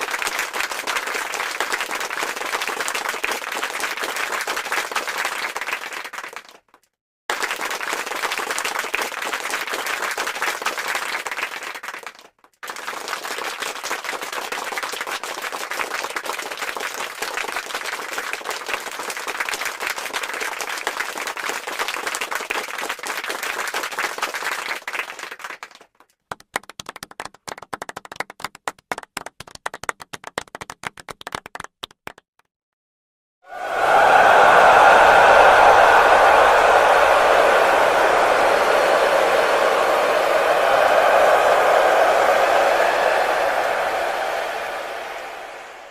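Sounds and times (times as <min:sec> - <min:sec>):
crowd applause: 0:00.0 - 0:06.6, 0:07.3 - 0:25.8, 0:33.5 - 0:45.9.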